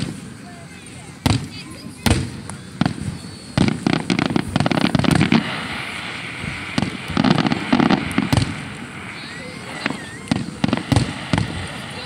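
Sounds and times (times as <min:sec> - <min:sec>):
firework bangs: 0:00.0 - 0:12.0
firework crackle: 0:00.0 - 0:12.0.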